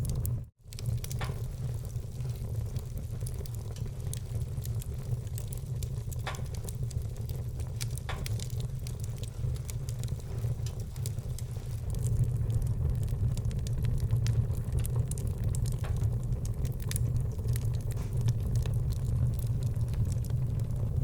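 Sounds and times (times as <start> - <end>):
low rumble: 0.0 - 21.0
wood fire crackling: 0.0 - 21.0.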